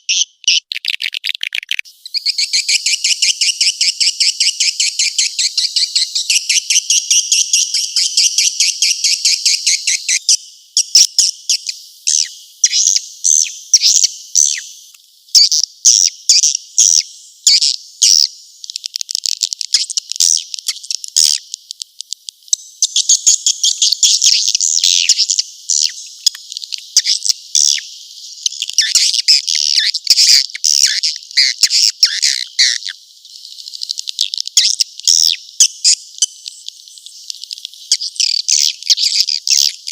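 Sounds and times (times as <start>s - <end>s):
swiftlet chirping and twittering: 0.0s - 14.7s, 22.4s - 39.9s.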